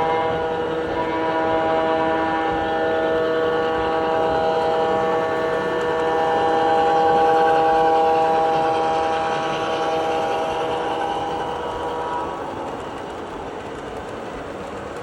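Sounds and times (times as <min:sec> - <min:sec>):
locomotive air horn chord: 0:00.0 - 0:12.2.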